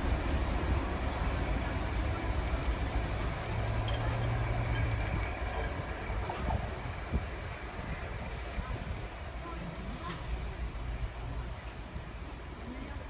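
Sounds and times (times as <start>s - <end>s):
locomotive engine hum: 0.0s - 13.0s
train rumble: 0.0s - 13.0s.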